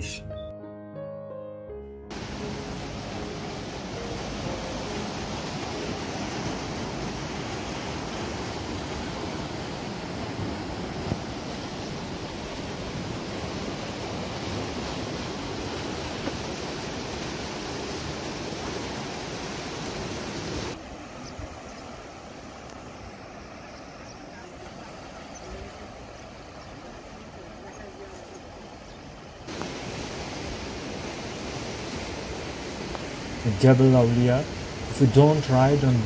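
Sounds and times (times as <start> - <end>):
water rushing through dam gates: 2.1 - 36.0.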